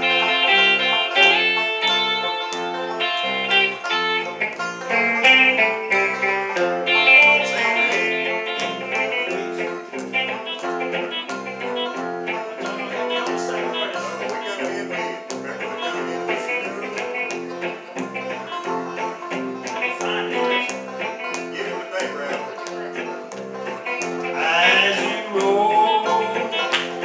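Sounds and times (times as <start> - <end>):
banjo: 0.0 - 27.0
bass guitar alternating two notes: 0.0 - 27.0
electric guitar: 0.0 - 27.0.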